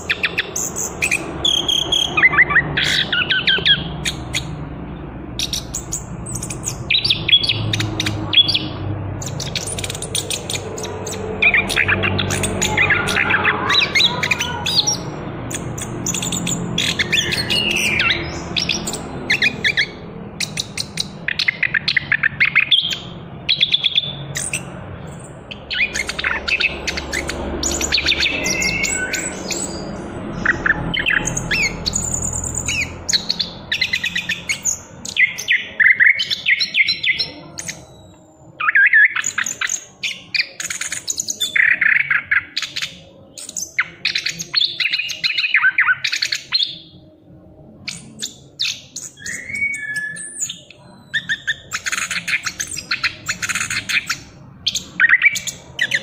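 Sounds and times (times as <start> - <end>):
thrush singing: 0.0 - 56.0.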